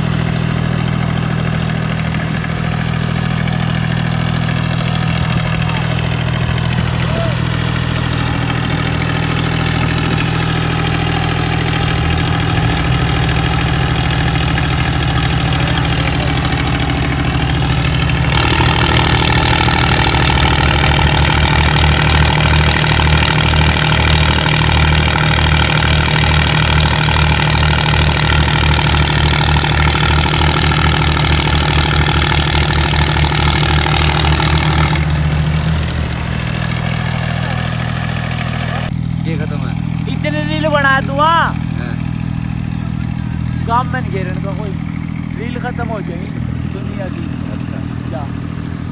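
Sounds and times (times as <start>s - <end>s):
tractor diesel engine: 0.0s - 48.9s.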